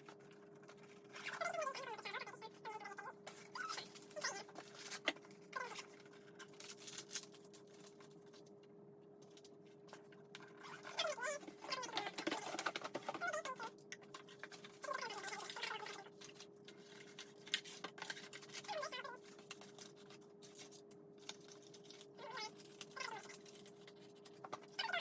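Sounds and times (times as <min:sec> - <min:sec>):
packaging clicks and rustles: 0:03.3 - 0:08.5, 0:09.2 - 0:25.0.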